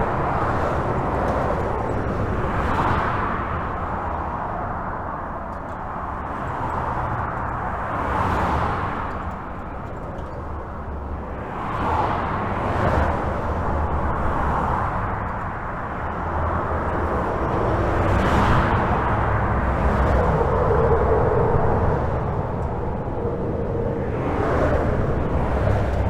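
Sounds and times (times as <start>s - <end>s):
highway traffic rumble: 0.0s - 26.0s
vehicles passing: 0.0s - 26.0s.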